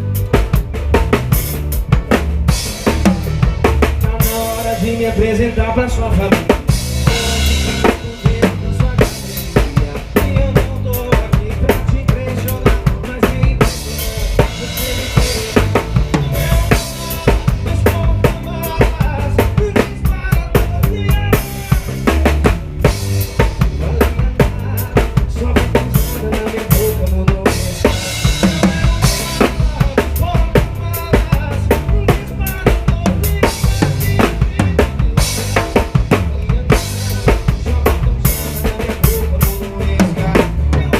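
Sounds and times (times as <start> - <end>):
live band music: 0.0 - 40.9.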